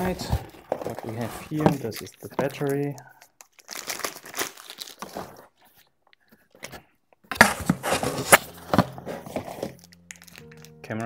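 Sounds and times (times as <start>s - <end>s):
plastic packaging crinkling: 0.5s - 6.8s, 7.4s - 10.9s.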